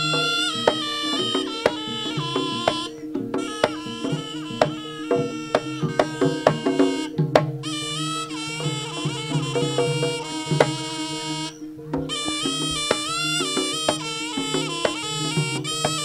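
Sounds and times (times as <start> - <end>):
drone notes: 0.0 - 16.0
hand drum strokes: 0.0 - 16.0
shrill reed melody: 0.0 - 16.0.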